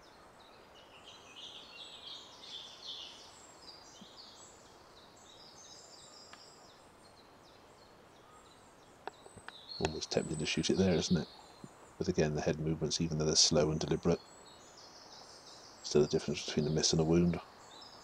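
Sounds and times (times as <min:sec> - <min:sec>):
small birds chirping and singing: 0:00.0 - 0:18.0
steady hiss: 0:00.0 - 0:18.0.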